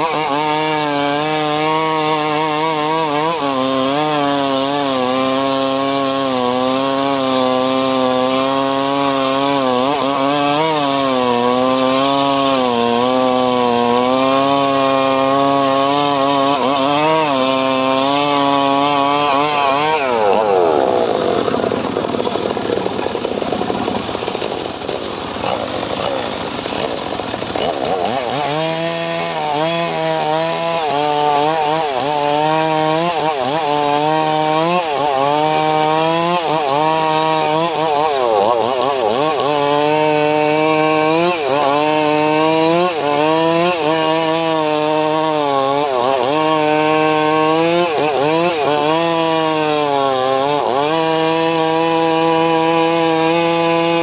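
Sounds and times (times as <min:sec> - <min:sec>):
sawmill saw cutting wood: 0:00.0 - 0:54.0.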